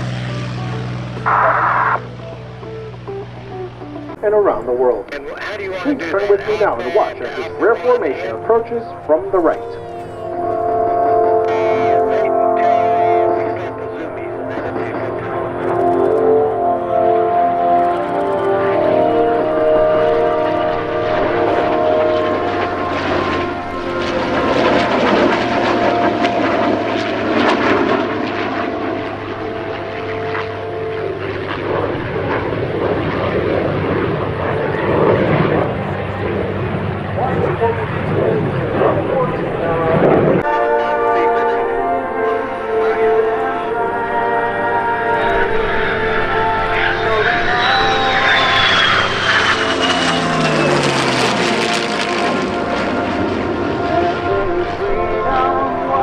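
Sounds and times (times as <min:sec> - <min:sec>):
jet engines rushing: 0:00.0 - 0:56.0
propeller plane engine drone: 0:00.0 - 0:56.0.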